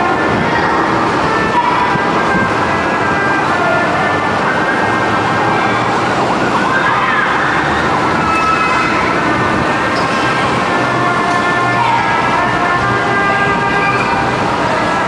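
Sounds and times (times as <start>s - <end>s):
city traffic noise: 0.0s - 15.0s
siren wailing: 0.0s - 15.0s.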